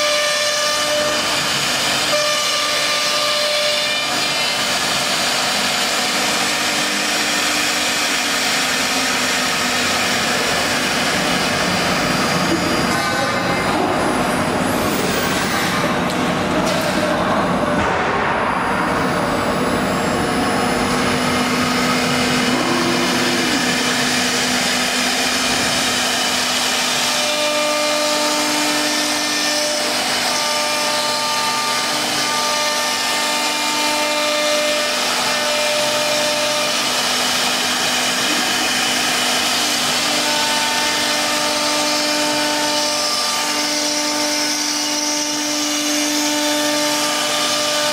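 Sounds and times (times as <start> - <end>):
wood router cutting: 0.0 - 17.8, 19.4 - 47.9.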